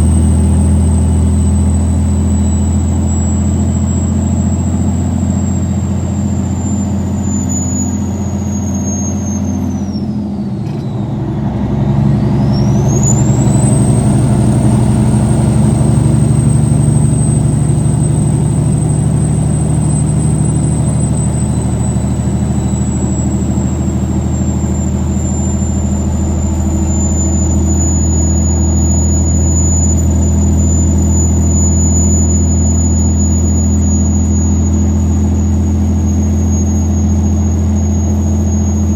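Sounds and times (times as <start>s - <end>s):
diesel engine hum: 0.0s - 38.9s
turbocharger whistle: 0.0s - 38.9s.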